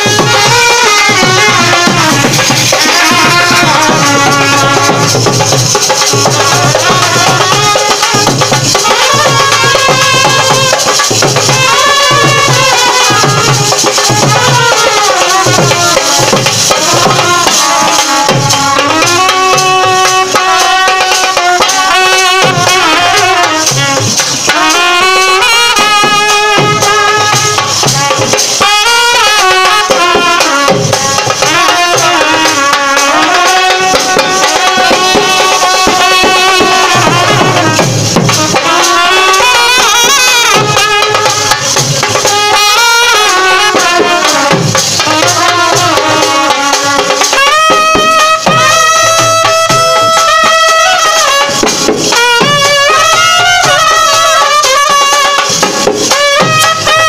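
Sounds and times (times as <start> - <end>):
barrel drum beat: 0.0 - 57.0
cymbals: 0.0 - 57.0
small side drum: 0.0 - 57.0
trumpets playing a bending melody: 0.0 - 57.0.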